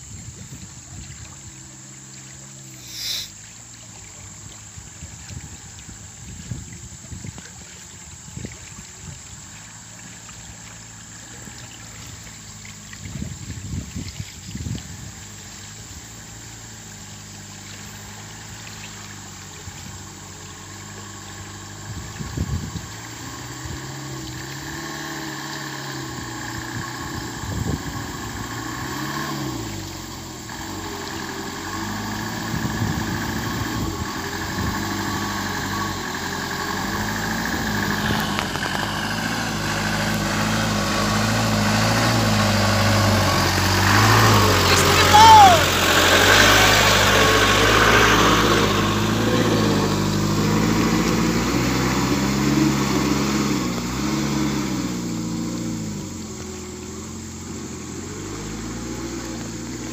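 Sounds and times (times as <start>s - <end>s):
truck engine working: 0.0s - 59.9s.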